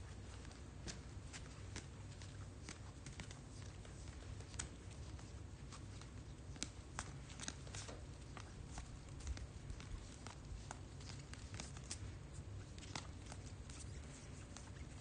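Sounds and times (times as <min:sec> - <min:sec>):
low steady hum: 0:00.0 - 0:15.0
trading cards flipped by hand: 0:00.4 - 0:15.0.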